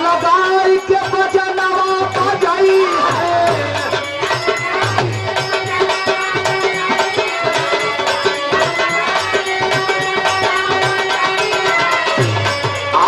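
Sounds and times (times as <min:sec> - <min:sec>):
hand drum beats: 0:00.0 - 0:13.0
harmonium holding notes: 0:00.0 - 0:13.0.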